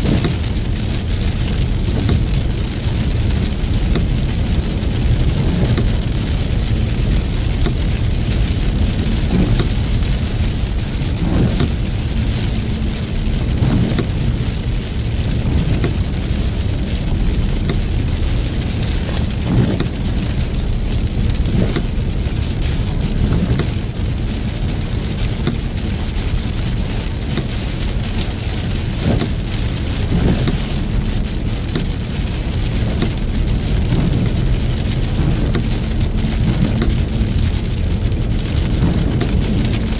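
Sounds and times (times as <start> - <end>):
heavy rain on a car: 0.0 - 39.9
road and engine rumble: 0.0 - 39.9.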